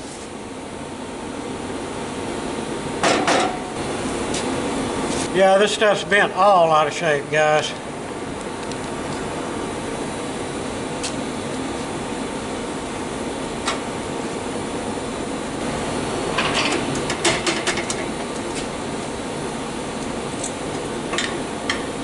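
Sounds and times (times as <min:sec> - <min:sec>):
shop background hum: 0:00.0 - 0:22.0.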